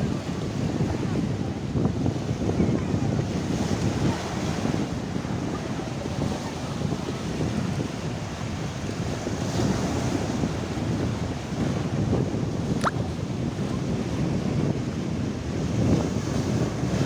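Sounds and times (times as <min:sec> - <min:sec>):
sea waves washing ashore: 0:00.0 - 0:17.0
wind buffeting microphone: 0:00.0 - 0:17.0.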